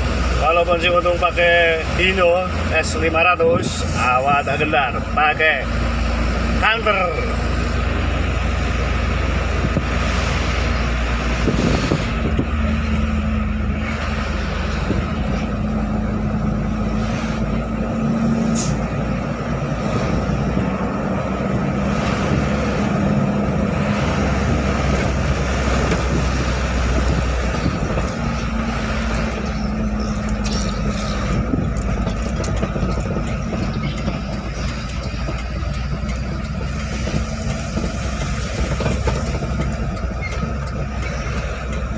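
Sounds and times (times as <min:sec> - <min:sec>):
engine droning hum: 0:00.0 - 0:41.9
truck engine rumbling: 0:00.0 - 0:41.9.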